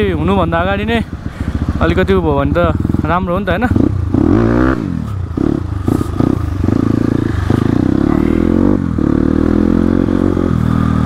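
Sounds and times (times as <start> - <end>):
dirt bike engine revving: 0.7 - 11.0.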